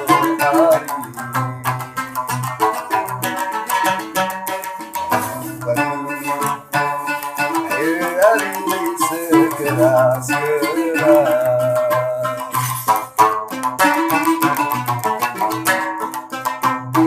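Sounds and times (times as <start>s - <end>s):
plucked lute melody: 0.0s - 17.0s.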